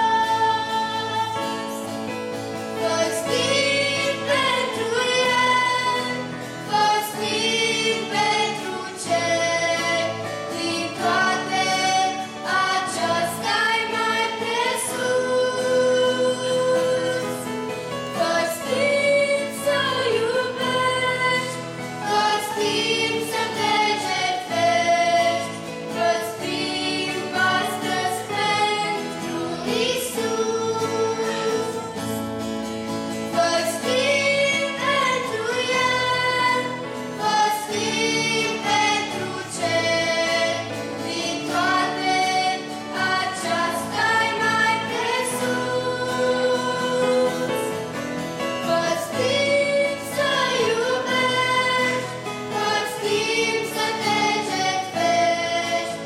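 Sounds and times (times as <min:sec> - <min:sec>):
girls singing a hymn together: 0:00.0 - 0:32.2, 0:33.2 - 0:56.0.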